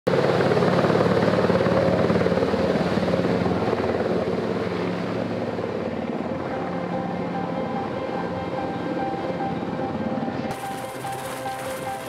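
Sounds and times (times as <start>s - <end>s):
helicopter engine hum: 0.1s - 12.0s
helicopter rotor beat: 0.1s - 12.0s.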